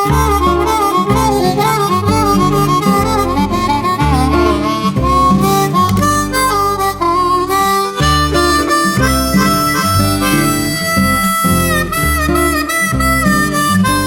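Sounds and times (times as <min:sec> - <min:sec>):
harmonica melody: 0:00.0 - 0:14.0
low bass line: 0:00.0 - 0:14.0.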